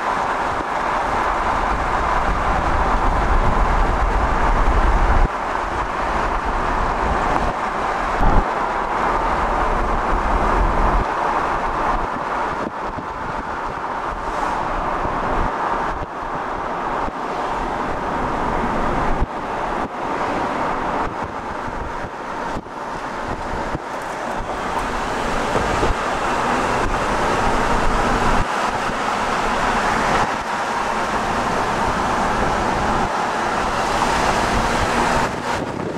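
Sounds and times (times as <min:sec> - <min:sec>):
road and tyre noise: 0:00.0 - 0:35.9
wind rushing past: 0:00.1 - 0:35.9.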